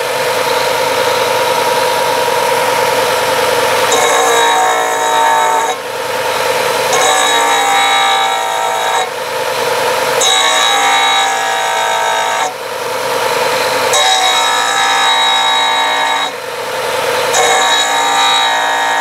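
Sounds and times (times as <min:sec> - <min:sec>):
disc sander motor running: 0:00.0 - 0:19.0
shrill grinding whine: 0:00.0 - 0:19.0.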